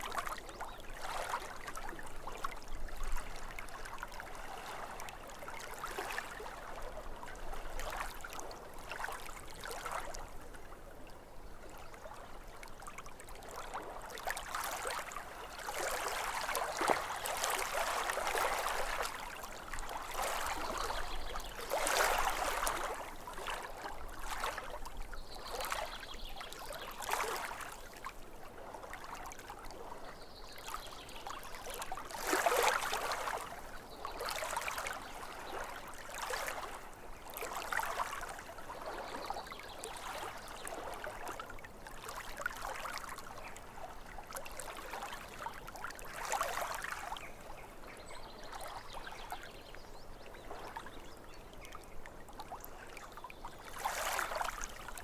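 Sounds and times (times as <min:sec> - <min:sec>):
small waves lapping: 0:00.0 - 0:55.0.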